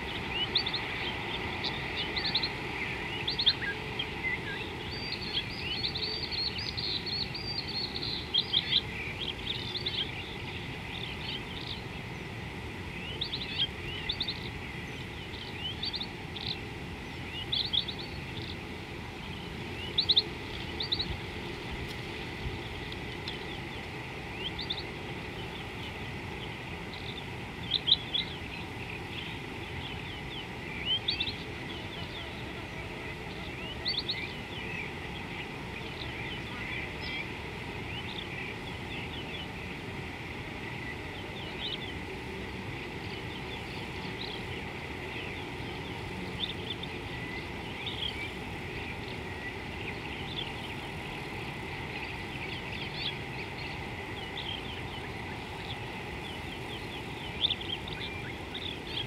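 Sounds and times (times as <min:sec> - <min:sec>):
birds chirping: 0:00.0 - 0:59.0
low background hiss: 0:00.0 - 0:59.0.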